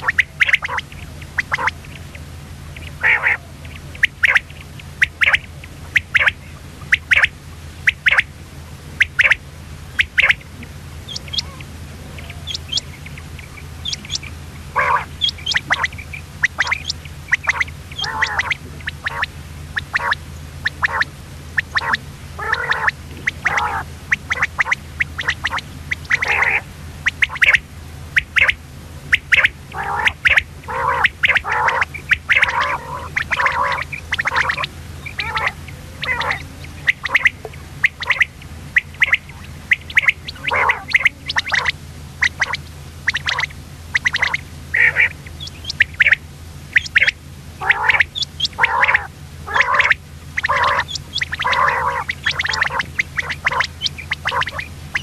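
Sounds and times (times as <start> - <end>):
quail calling: 0.0 - 55.0
steady low hum: 0.0 - 55.0.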